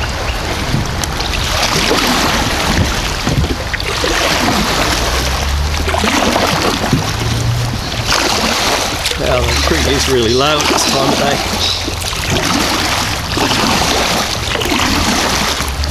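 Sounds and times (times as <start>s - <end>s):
paddle stroke splashes: 0.0s - 15.9s
water rushing around kayak: 0.0s - 15.9s.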